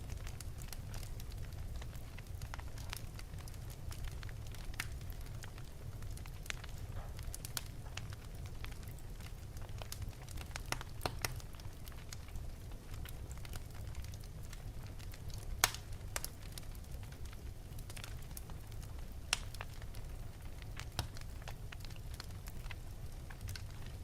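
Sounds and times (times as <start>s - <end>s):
fire snapping and popping: 0.0s - 24.0s
low fire rumble: 0.0s - 24.0s
wood fire crackling: 0.0s - 24.0s.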